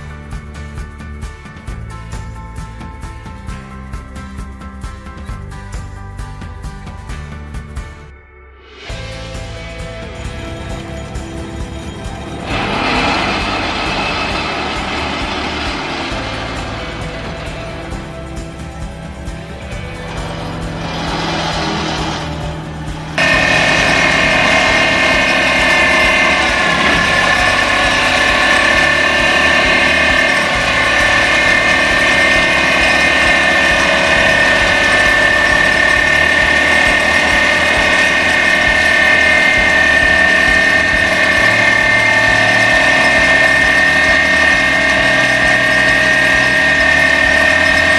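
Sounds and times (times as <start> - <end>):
vibratory pile hammer whine: 8.7 - 47.9.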